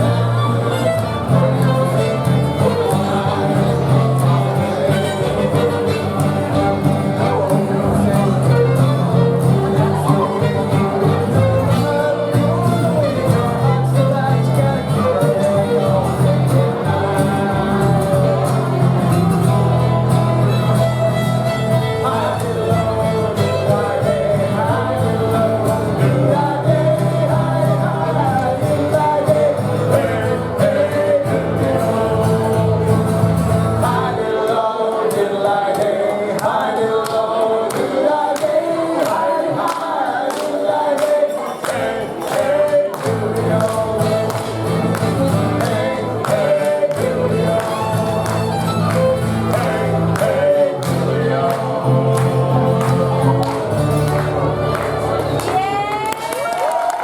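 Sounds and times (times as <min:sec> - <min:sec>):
group singing with instruments: 0:00.0 - 0:55.7.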